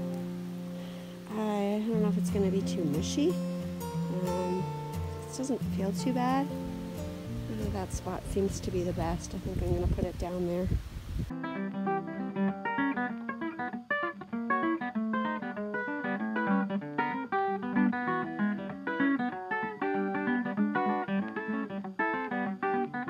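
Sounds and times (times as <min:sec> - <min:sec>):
acoustic guitar plucked notes: 0:00.0 - 0:10.6, 0:11.3 - 0:23.0.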